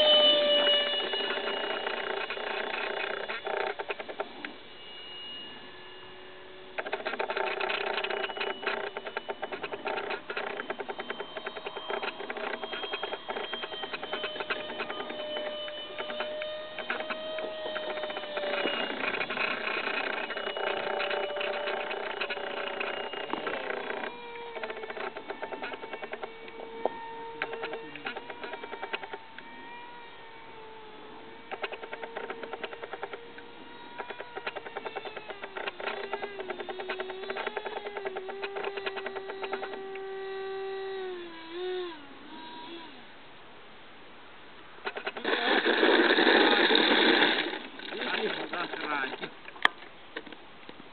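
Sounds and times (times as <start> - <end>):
rapid clicking crackle: 0.0 - 5.6, 6.5 - 29.6, 31.4 - 42.9, 44.8 - 50.4
electric ducted fan whine: 0.0 - 50.9.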